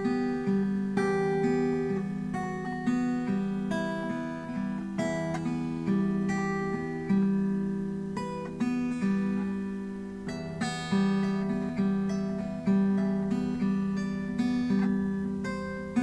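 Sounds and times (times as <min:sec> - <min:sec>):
acoustic guitar chords ringing: 0:00.0 - 0:16.0.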